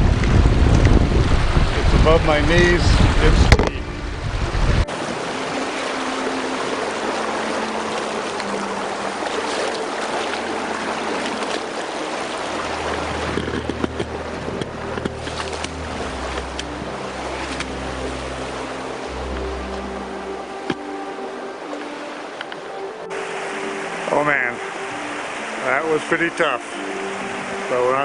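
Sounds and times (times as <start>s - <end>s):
river rushing and splashing: 0.0s - 28.0s
soft background music: 0.3s - 28.0s
person wading through water: 3.0s - 25.7s, 26.6s - 28.0s.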